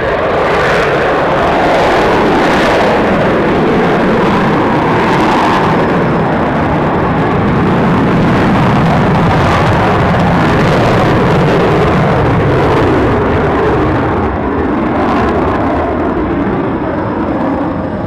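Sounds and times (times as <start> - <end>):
aircraft engine noise: 0.0 - 18.0.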